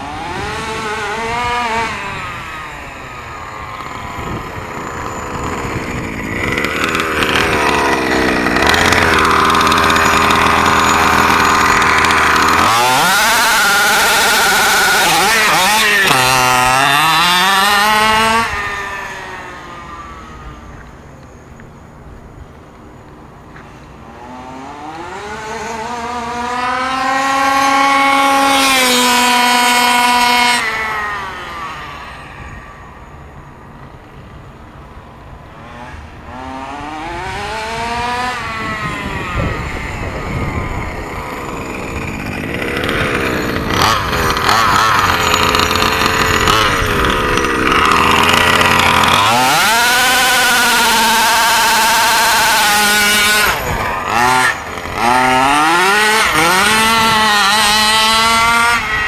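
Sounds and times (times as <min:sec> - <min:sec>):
rc buggy engine at full throttle: 0:00.0 - 0:59.0.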